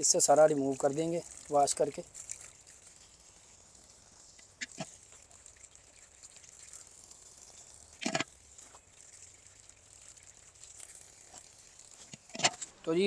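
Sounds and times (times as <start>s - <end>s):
water from hose: 0.0s - 13.0s
water splashes: 0.0s - 13.0s.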